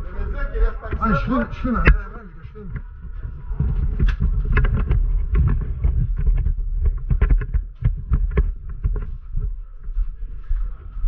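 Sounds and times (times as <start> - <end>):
footsteps: 0.0 - 11.0
low rumble: 0.0 - 11.0.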